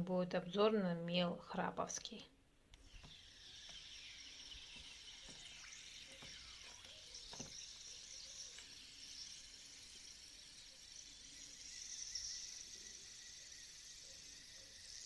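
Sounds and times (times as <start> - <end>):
faint high hiss: 2.0 - 14.7.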